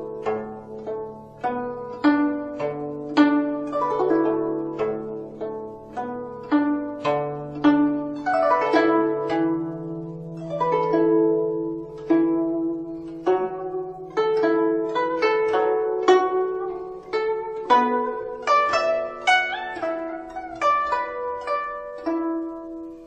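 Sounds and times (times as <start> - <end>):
plucked string melody: 0.0 - 23.0.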